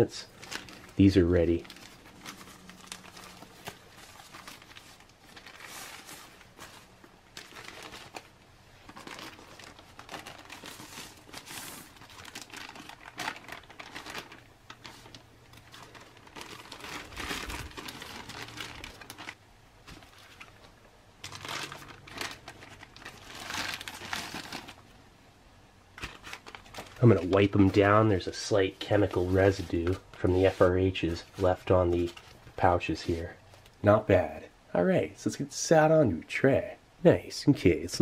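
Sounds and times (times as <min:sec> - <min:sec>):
packaging crinkling and rustling: 0:00.0 - 0:25.0, 0:25.9 - 0:33.8.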